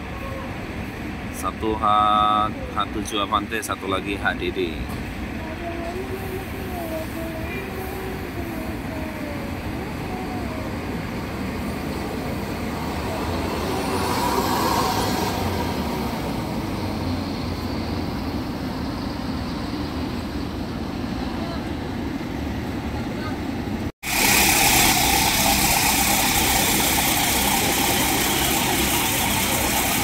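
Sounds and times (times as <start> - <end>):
bus diesel engine rumbling: 0.0 - 30.0.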